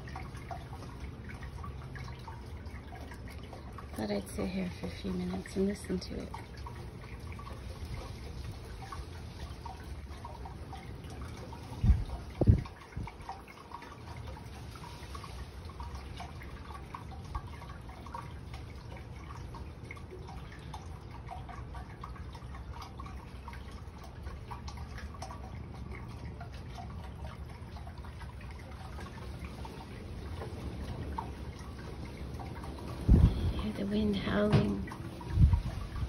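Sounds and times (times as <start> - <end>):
fountain trickling and dripping: 0.0 - 36.0
low rumble of wind: 0.0 - 36.0.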